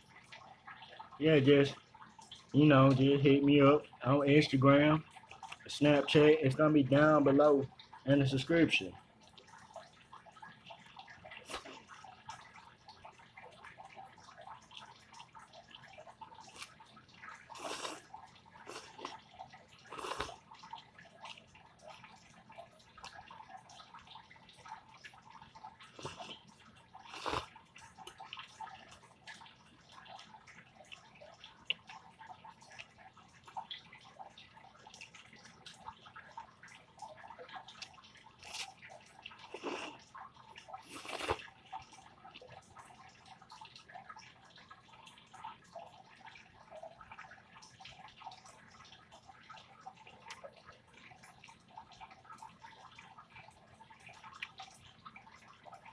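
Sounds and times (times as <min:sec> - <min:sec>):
small water splashes: 0:00.0 - 0:55.9
water trickling and dripping: 0:00.0 - 0:55.9.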